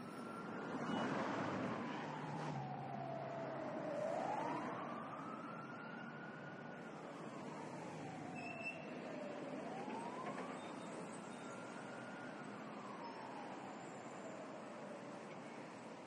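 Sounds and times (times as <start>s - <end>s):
distant siren wailing: 0.0s - 16.0s
street traffic: 0.0s - 16.0s.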